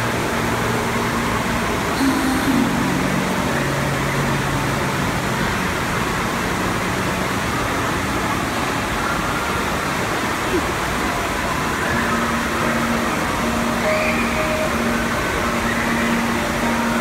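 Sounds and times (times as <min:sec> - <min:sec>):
water rushing up a slope: 0:00.0 - 0:17.0.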